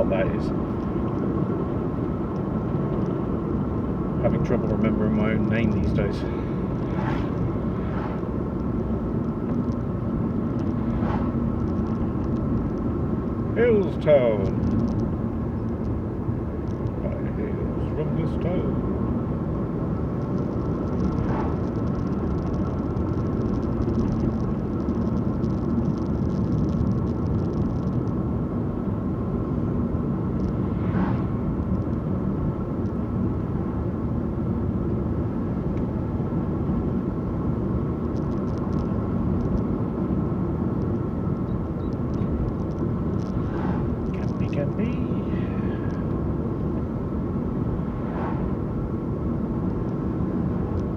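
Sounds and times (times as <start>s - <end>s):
car cabin road noise: 0.0s - 50.9s.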